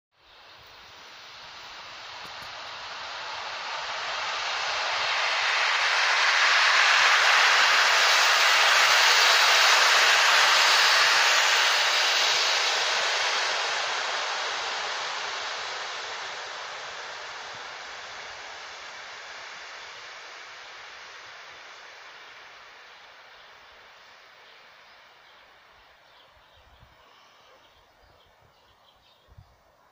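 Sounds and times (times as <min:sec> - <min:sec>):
train wheels rushing on rails: 0:00.6 - 0:27.6.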